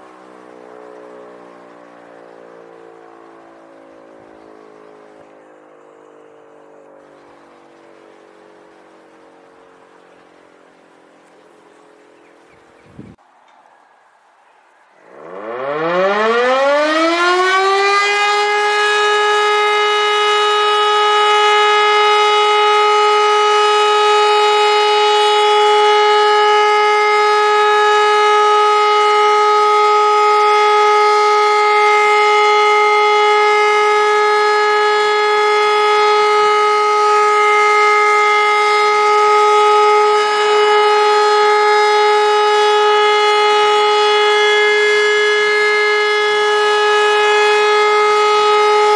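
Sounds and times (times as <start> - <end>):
siren rising to steady tone: 0.0 - 12.2, 15.0 - 48.9.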